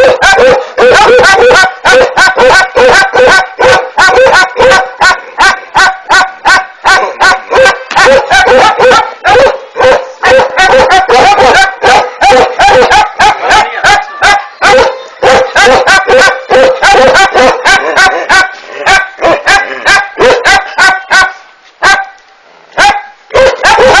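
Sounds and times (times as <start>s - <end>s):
dog pup barking rapidly: 0.0s - 22.2s, 22.8s - 24.0s.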